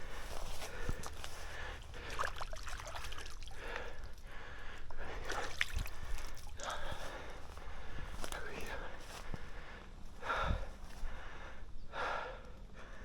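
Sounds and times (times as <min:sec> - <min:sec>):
man panting: 0:00.0 - 0:02.3, 0:03.4 - 0:13.0.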